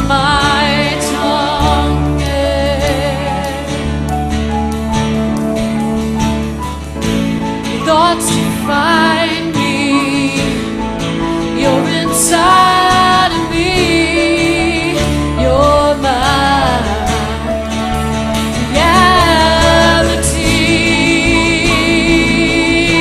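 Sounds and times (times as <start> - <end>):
person singing with vibrato: 0.0 - 4.1, 7.7 - 23.0
instrumental accompaniment: 0.0 - 23.0.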